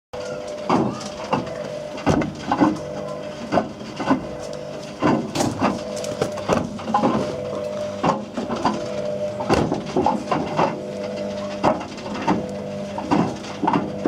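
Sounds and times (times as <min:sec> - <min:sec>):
objects clattering in drum: 0:00.2 - 0:14.0
washing machine motor hum: 0:00.2 - 0:14.0.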